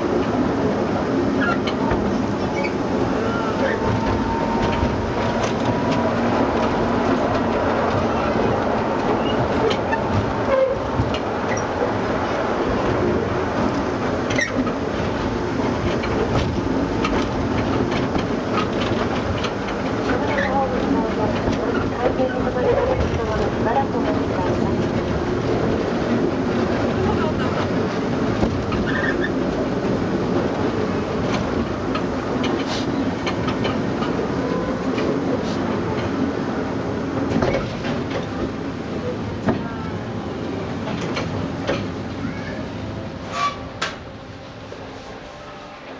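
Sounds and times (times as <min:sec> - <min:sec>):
wheels rumbling on rail: 0:00.0 - 0:45.9.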